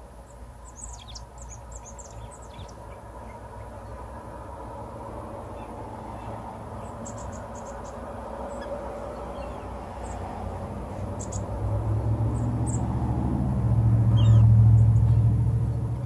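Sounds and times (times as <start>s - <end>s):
small birds chipping: 0.0s - 13.1s, 14.0s - 16.0s
motor vehicle passing: 0.9s - 16.0s.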